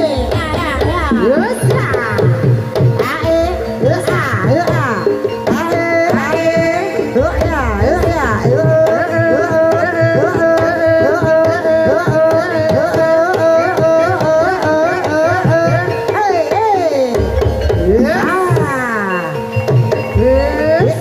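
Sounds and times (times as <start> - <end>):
gamelan melody: 0.0 - 21.0.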